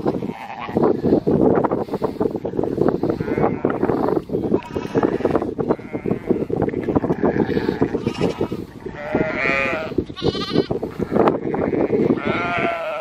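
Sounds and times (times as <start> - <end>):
sheep and lambs bleating: 0.0 - 1.0, 3.0 - 13.0.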